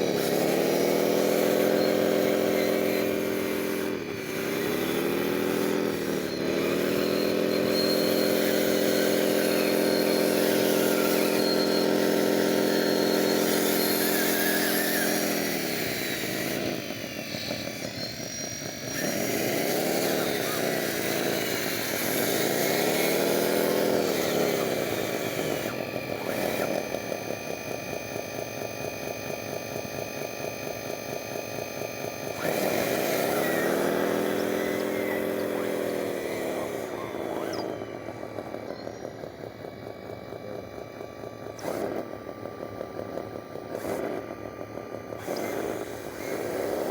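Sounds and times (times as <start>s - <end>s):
electric motors whining: 0.0s - 46.9s.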